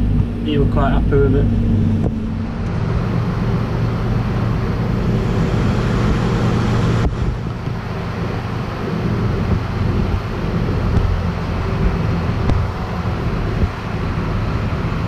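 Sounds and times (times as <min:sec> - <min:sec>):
diesel engine running: 0:00.0 - 0:15.0
broad rushing noise: 0:01.5 - 0:15.0.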